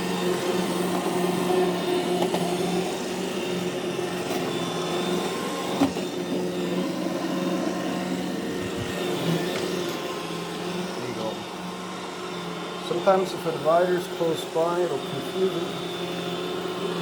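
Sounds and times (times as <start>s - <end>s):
robot vacuum running: 0.0s - 17.0s.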